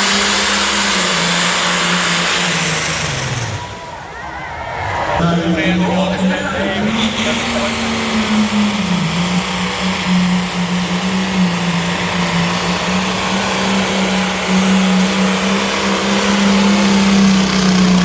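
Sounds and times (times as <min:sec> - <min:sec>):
tractor engine at full power: 0:00.0 - 0:18.0.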